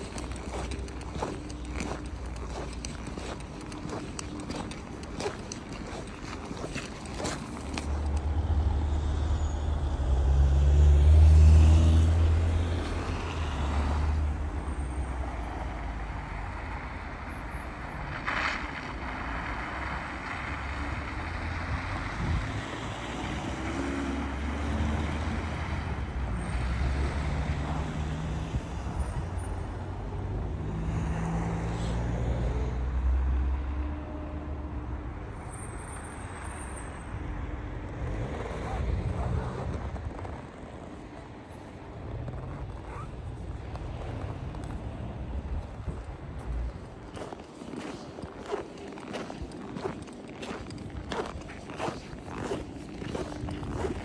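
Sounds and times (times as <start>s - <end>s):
motor vehicles passing: 0.0s - 54.0s.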